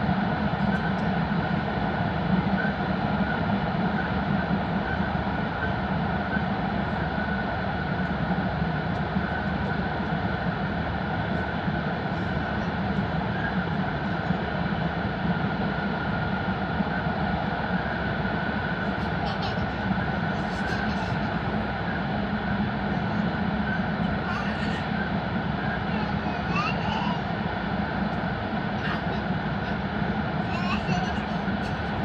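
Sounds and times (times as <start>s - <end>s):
train rumble in tunnel: 0.0s - 32.0s.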